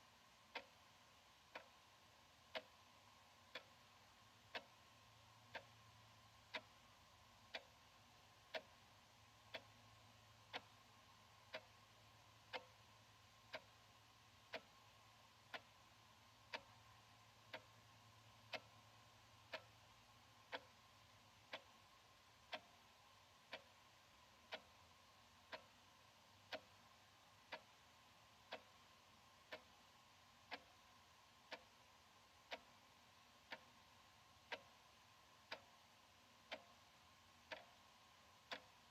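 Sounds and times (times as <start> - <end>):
wall clock ticking: 0.0 - 38.9.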